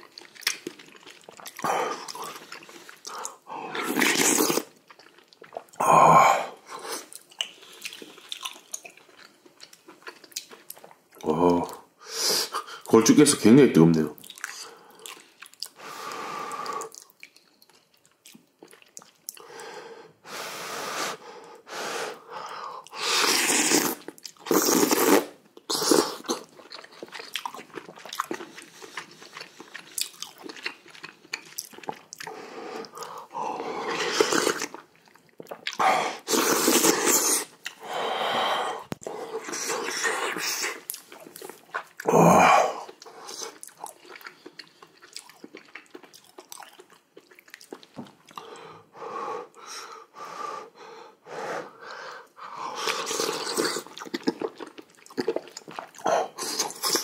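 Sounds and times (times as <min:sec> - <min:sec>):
person chewing soup: 0:00.0 - 0:12.9, 0:14.2 - 0:20.2, 0:21.2 - 0:57.0.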